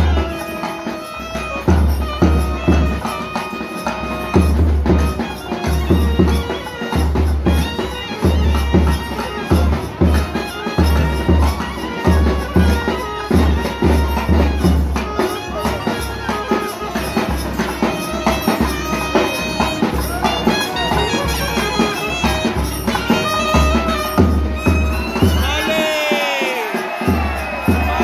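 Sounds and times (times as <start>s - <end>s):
double-reed horn melody: 0.0s - 28.0s
deep drum beats: 4.3s - 28.0s.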